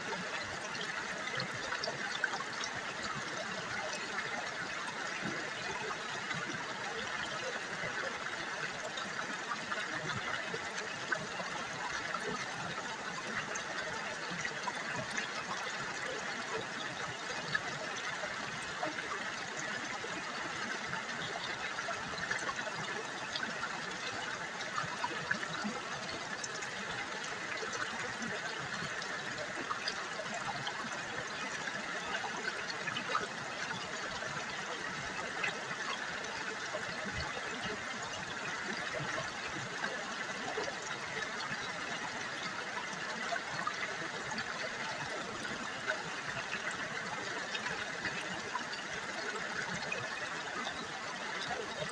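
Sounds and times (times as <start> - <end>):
river water babbling: 0.0 - 51.9.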